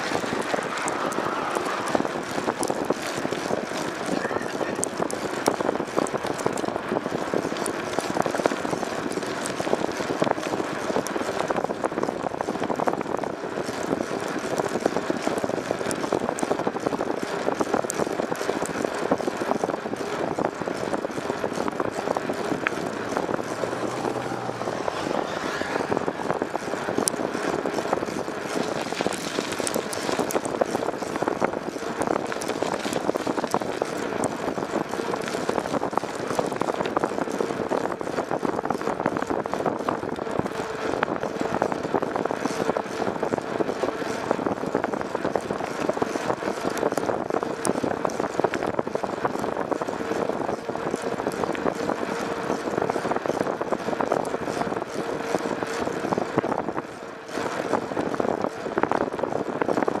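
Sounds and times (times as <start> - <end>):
road and wind noise: 0.0 - 60.0.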